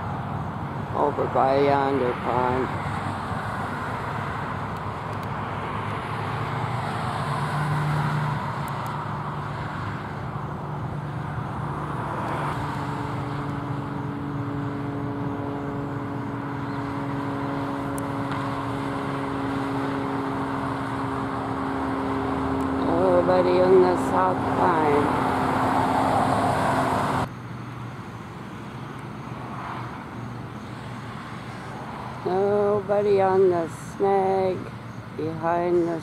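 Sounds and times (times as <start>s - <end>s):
road traffic noise: 0.0s - 36.0s
vehicle engine hum: 0.0s - 36.0s.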